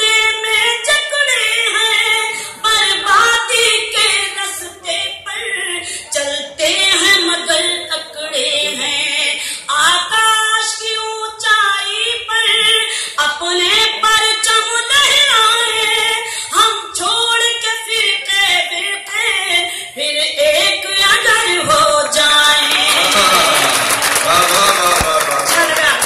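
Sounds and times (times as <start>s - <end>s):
woman singing into microphone: 0.0s - 23.1s.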